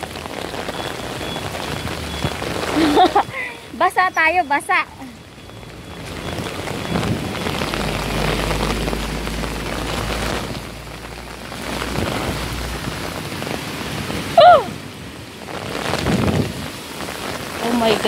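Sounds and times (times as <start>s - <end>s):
heavy rain pouring on pavement: 0.0s - 18.0s.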